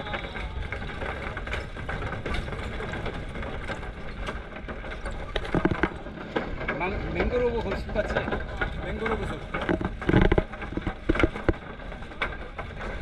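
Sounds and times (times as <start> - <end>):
road rumble: 0.0 - 13.0.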